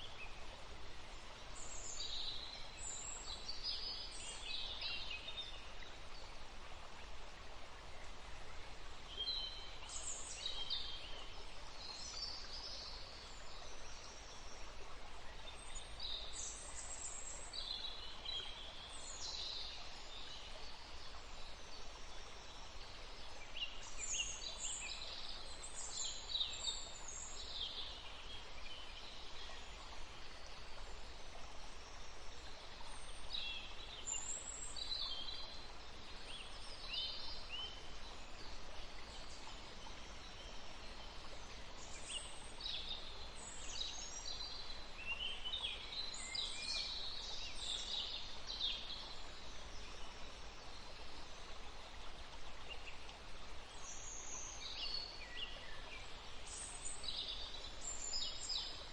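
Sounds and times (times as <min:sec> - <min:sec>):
faint steady hiss: 0:00.0 - 0:58.9.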